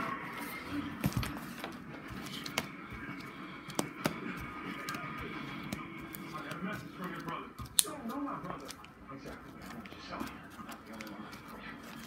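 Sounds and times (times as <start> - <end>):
plastic sleeves rustling: 0.0 - 12.0
plastic sleeves clicking: 2.2 - 12.0.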